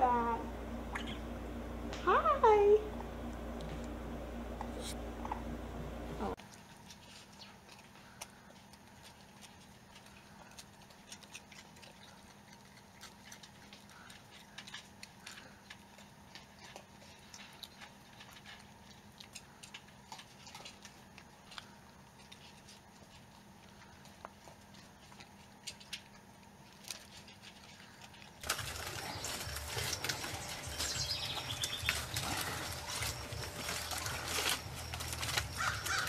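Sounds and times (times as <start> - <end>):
steady low hum: 0.0 - 36.0
raccoon chewing food: 3.0 - 36.0.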